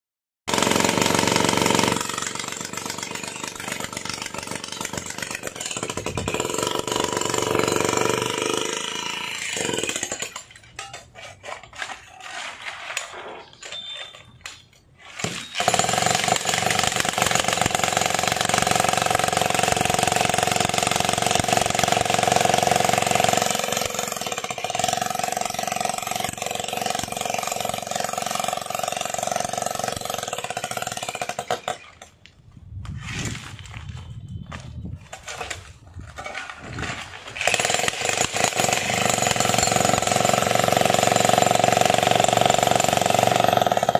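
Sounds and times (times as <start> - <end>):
demolition hammer chiselling concrete: 0.5 - 14.1, 15.0 - 32.1, 36.2 - 43.9.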